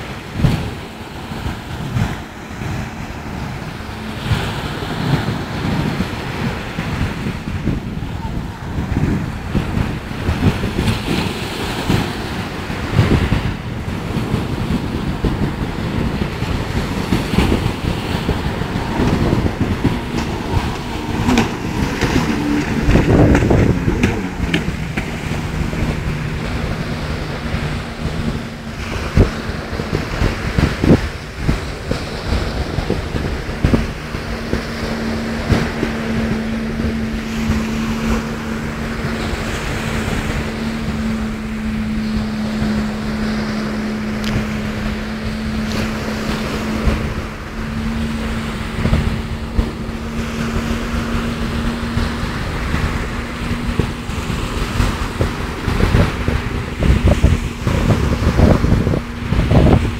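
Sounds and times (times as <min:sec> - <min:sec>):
jet ski engine droning: 0:00.0 - 0:59.9
surf breaking: 0:00.0 - 0:59.9
wind buffeting microphone: 0:00.0 - 0:59.9.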